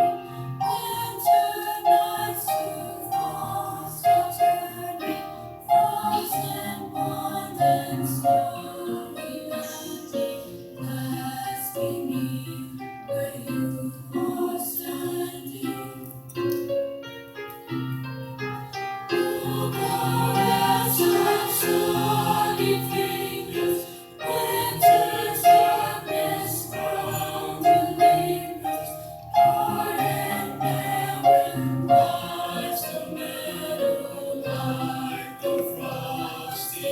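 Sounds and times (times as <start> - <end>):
school chorus singing: 0.0 - 16.3, 19.1 - 36.9
musical accompaniment: 0.0 - 36.9.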